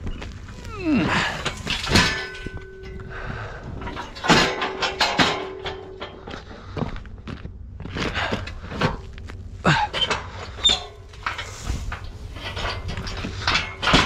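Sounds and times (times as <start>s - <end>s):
knocks and clunks: 0.0s - 14.0s
truck rumble and hum: 0.0s - 14.0s.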